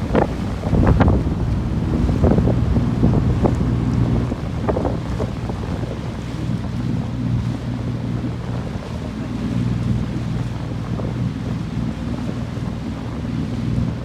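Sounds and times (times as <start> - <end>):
motorboat engine humming: 0.0 - 14.0
water slapping against hull: 0.0 - 14.0
wind buffeting microphone: 0.0 - 14.0.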